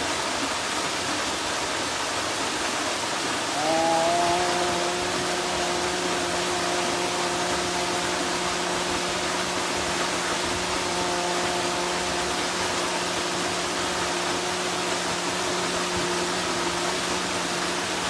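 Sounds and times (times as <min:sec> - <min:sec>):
faint steady hum: 0:00.0 - 0:18.0
waterfall rushing: 0:00.0 - 0:18.0.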